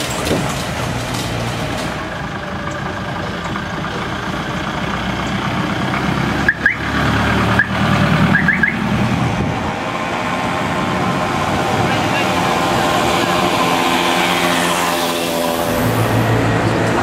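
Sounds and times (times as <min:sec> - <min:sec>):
cars and motorcycles driving by: 0:00.0 - 0:17.0.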